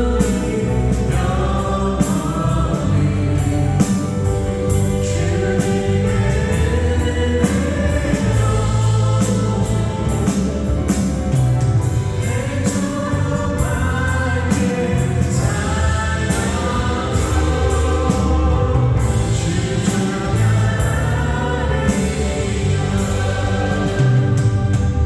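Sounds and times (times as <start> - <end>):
band playing: 0.0 - 25.0
people singing together: 0.0 - 25.0
steady bass: 0.0 - 25.0.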